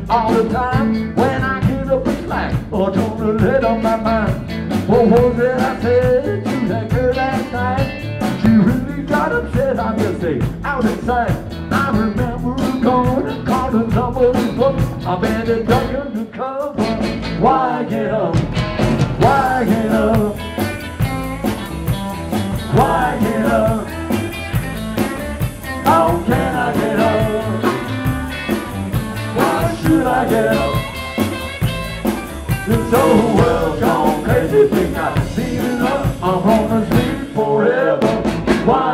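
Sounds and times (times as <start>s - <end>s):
person singing: 0.0s - 18.5s, 19.2s - 20.6s, 22.7s - 24.3s, 25.7s - 31.3s, 32.5s - 38.9s
live rock band playing: 0.0s - 38.9s.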